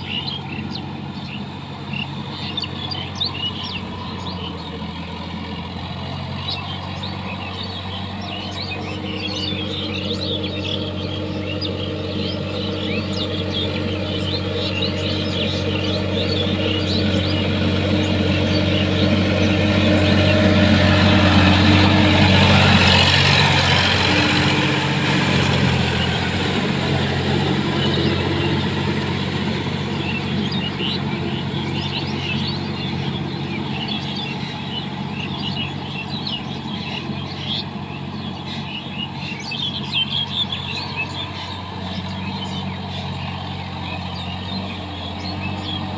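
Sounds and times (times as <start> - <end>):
birds chirping: 0.0 - 45.9
tractor diesel engine running: 0.0 - 45.9.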